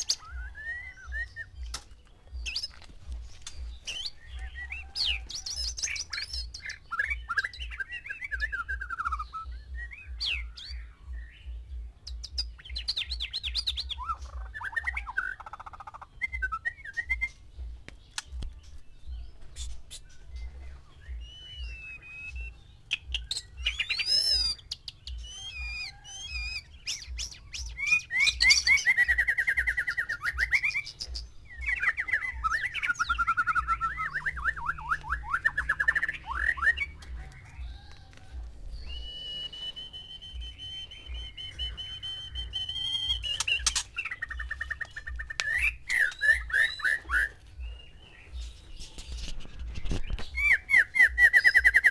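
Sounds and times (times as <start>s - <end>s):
bird singing whistles and trills: 0.0s - 51.9s.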